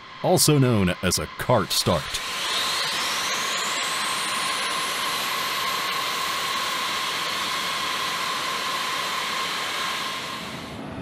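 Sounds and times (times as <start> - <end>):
steady tones: 0.0 - 10.8
jet engines spooling up: 0.0 - 11.0.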